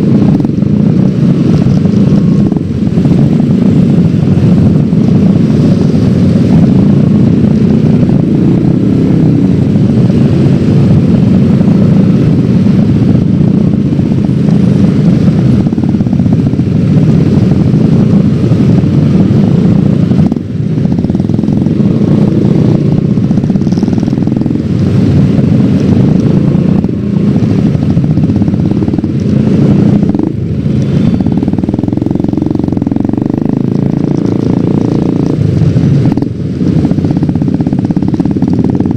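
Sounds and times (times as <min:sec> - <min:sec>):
road noise: 0:00.0 - 0:38.9
scooter engine running: 0:00.0 - 0:38.9.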